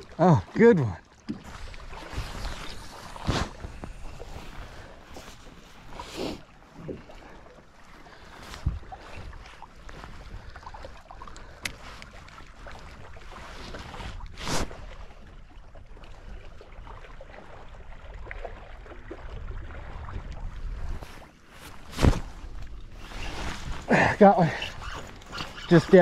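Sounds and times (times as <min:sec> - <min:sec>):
small waves lapping at boat: 0:00.0 - 0:26.0.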